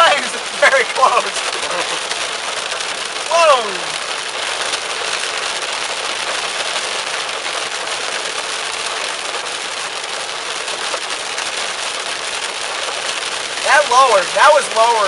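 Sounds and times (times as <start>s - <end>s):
heavy rain on car windshield: 0.0s - 15.0s
wet road noise: 0.0s - 15.0s.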